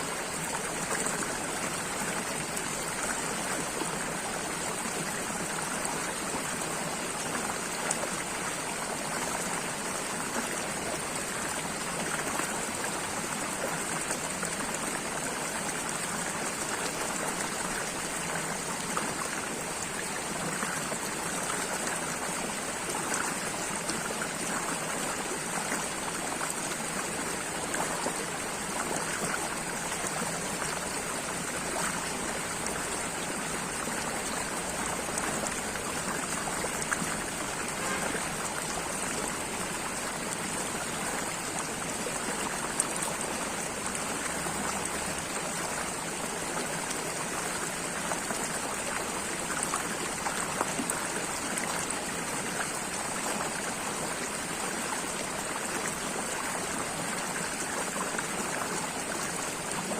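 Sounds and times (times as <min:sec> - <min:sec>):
running water with splashes: 0:00.0 - 0:59.9.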